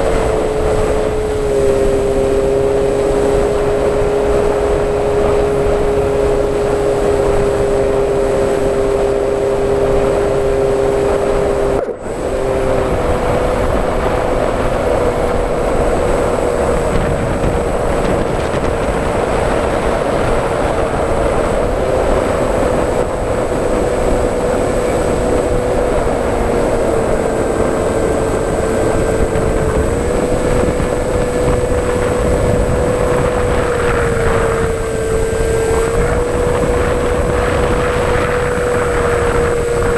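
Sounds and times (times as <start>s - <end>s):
heavy wind noise: 0.0s - 39.9s
model aircraft motor humming: 0.0s - 39.9s.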